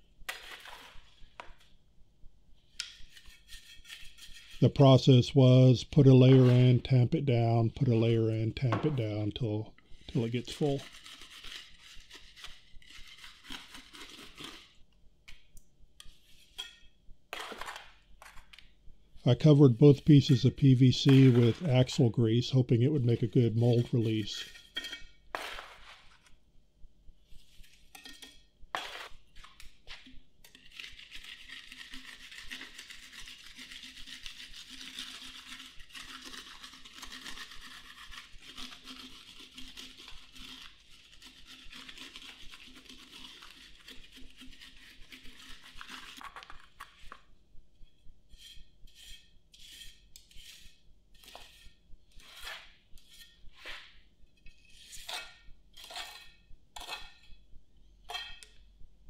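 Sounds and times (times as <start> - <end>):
trowel scraping cement: 0.3 - 1.6, 2.8 - 14.8, 16.0 - 18.6, 19.4 - 22.2, 23.0 - 26.4, 27.4 - 47.2, 48.3 - 57.3.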